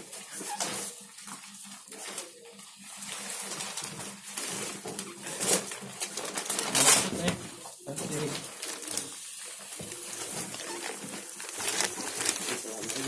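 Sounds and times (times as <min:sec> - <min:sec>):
plastic wrapping crinkling: 0:00.1 - 0:13.0.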